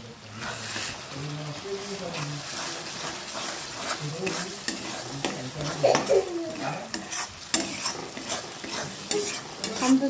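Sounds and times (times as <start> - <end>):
paste sizzling in oil: 0.0 - 10.0
spatula scraping a metal pan: 1.9 - 10.0.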